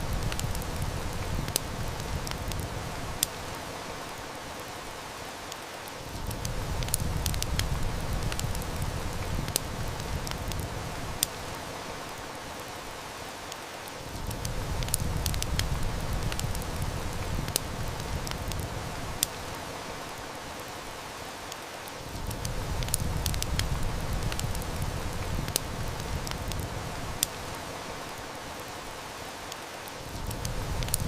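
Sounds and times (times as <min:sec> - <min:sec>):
heavy rain hissing: 0:00.0 - 0:31.0
wood fire crackling: 0:00.0 - 0:31.0.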